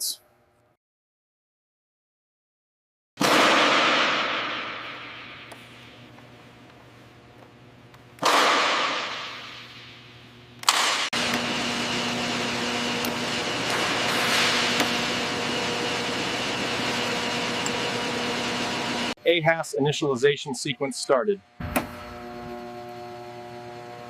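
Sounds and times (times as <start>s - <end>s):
machine running with hum: 4.6s - 24.0s.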